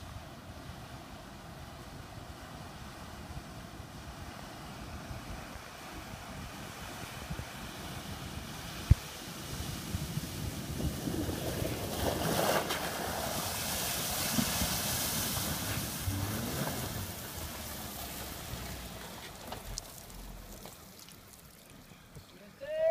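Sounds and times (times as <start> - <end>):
vehicle driving through river: 0.0 - 22.5
water splashing and rushing: 0.4 - 21.9.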